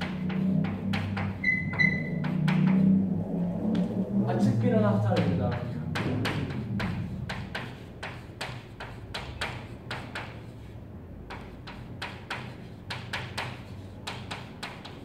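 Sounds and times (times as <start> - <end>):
chalk tapping on blackboard: 0.0 - 2.9, 5.1 - 15.0.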